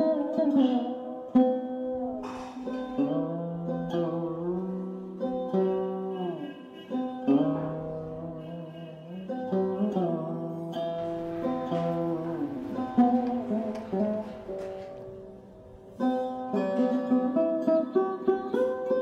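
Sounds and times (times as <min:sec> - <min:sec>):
plucked sarod melody: 0:00.0 - 0:19.0.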